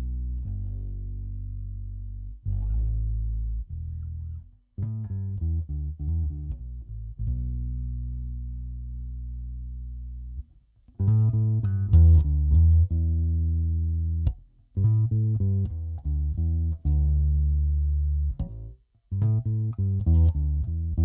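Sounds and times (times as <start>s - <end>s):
electric bass plucked notes: 0.0s - 21.0s.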